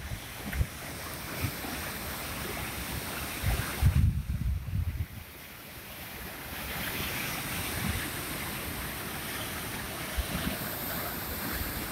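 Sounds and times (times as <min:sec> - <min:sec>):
river water rushing over rocks: 0:00.0 - 0:11.9.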